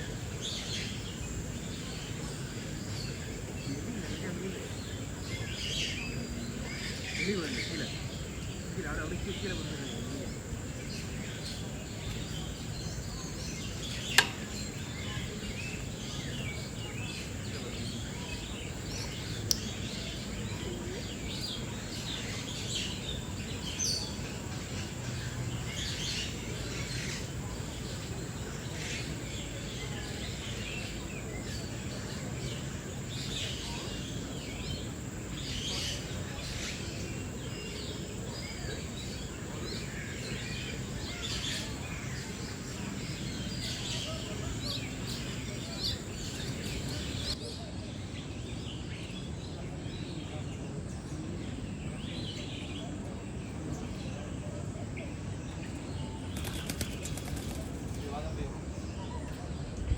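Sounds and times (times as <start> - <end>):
birds chirping and calling: 0.0 - 47.6, 55.5 - 59.5
steady background noise: 0.0 - 59.9.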